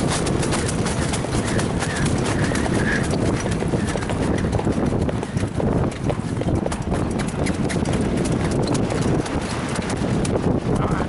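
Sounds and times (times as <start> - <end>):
steady low rumble: 0.0 - 9.3
horse hoofbeats clip-clopping: 0.0 - 11.0.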